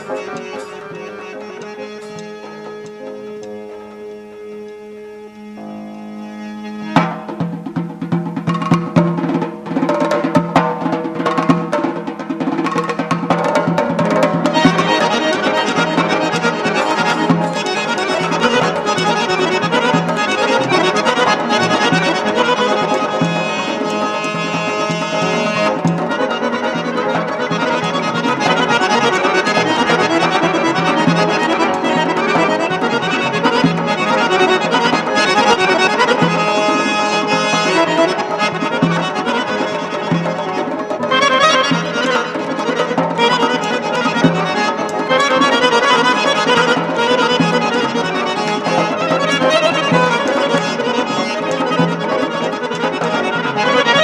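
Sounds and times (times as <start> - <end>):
button accordion folk tune: 0.0 - 54.0.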